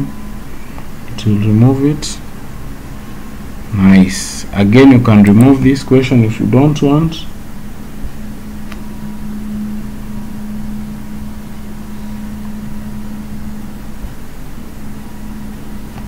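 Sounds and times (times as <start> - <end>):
low machine hum with whine: 0.0 - 16.0.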